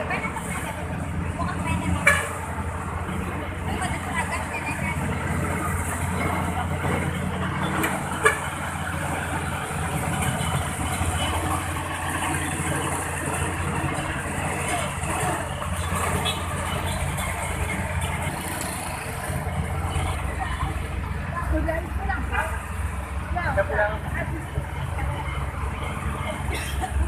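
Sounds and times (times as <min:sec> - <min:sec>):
road traffic noise: 0:00.0 - 0:27.0
vehicle engines running: 0:00.0 - 0:27.0.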